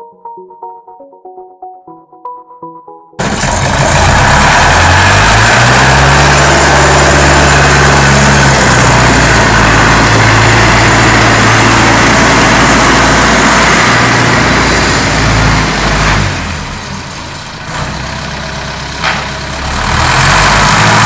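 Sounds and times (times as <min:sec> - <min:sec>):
diesel tractor engine: 0:03.2 - 0:21.0.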